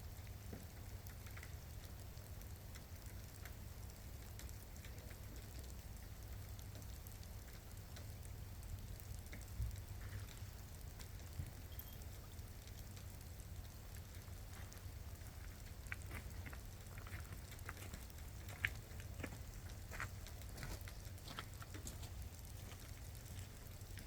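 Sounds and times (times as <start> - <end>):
low steady rumble: 0.0 - 24.0
raindrops pattering and dripping: 0.0 - 24.0.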